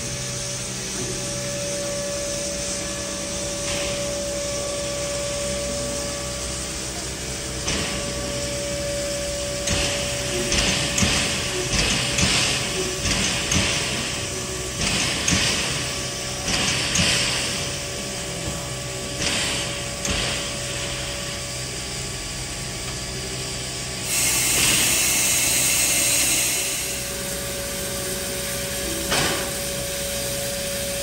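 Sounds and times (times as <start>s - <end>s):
steam locomotive puffing: 0.0s - 21.4s, 24.0s - 31.0s
loud hiss of steam: 0.0s - 31.0s
steady hum: 0.0s - 31.0s.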